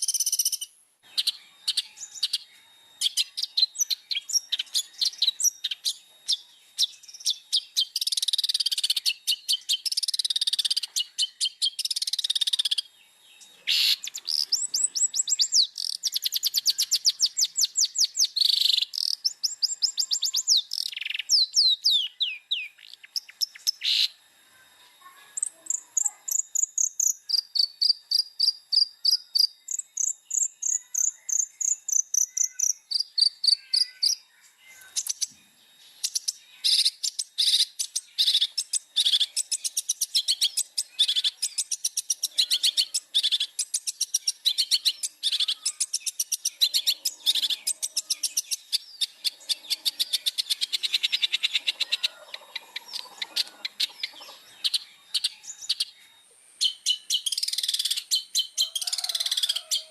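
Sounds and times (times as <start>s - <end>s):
shrike singing: 0.0s - 24.2s, 25.0s - 59.9s.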